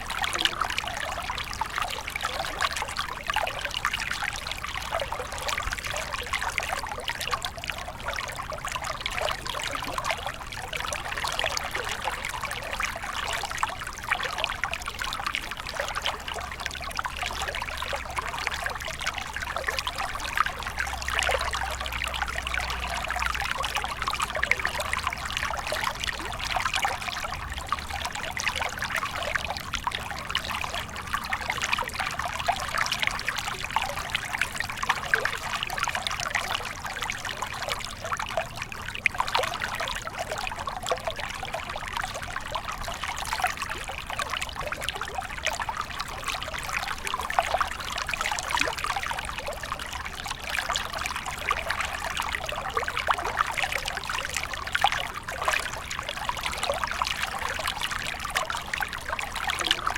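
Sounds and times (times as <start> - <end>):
stream splashing over stones: 0.0 - 59.9.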